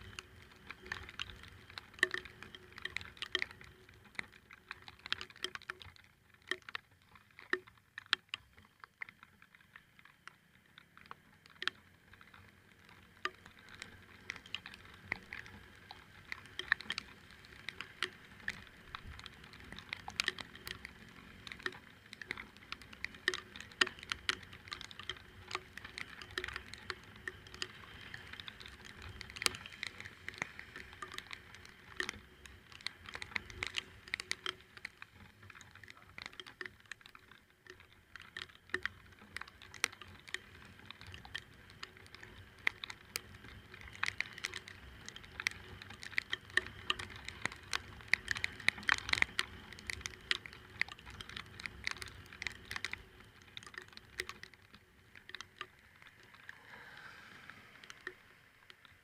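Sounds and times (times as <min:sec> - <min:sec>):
raindrops tapping: 0:00.0 - 0:59.0.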